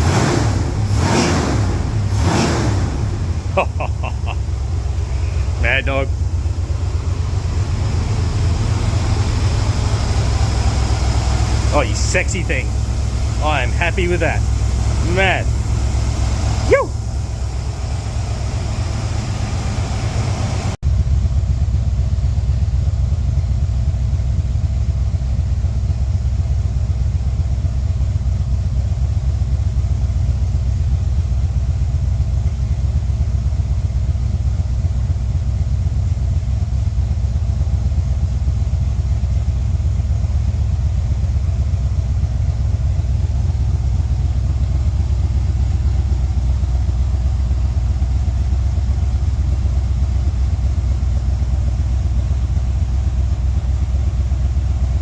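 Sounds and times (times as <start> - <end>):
engine idling rumble: 0.0 - 55.0.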